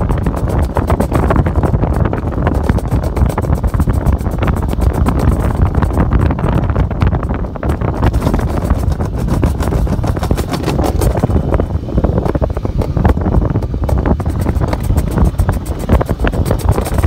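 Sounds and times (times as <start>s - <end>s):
toboggan sled rumbling in trough: 0.0s - 17.0s.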